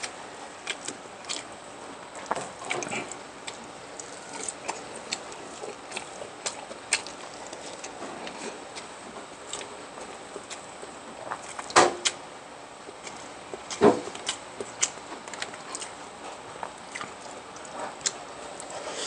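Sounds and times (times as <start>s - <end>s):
wet chewing clicks and smacks: 0.0s - 8.9s, 9.5s - 12.2s, 12.8s - 16.0s, 16.6s - 18.7s.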